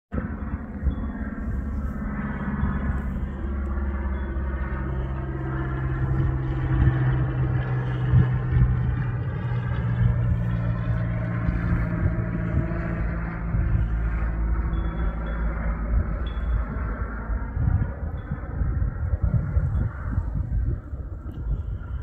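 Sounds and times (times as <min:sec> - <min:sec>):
light aircraft droning overhead: 0:00.1 - 0:22.0.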